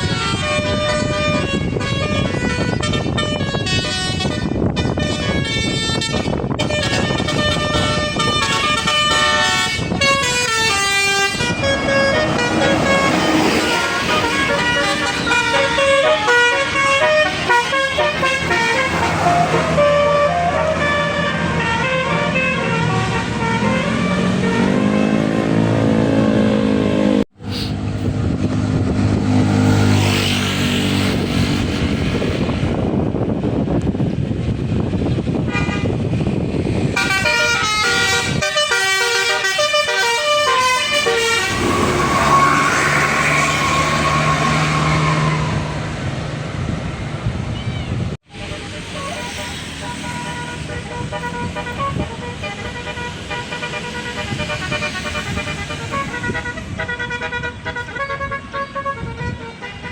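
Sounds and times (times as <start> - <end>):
multi-tone musical bus horns: 0.0 - 33.3, 35.2 - 46.8, 47.9 - 59.9.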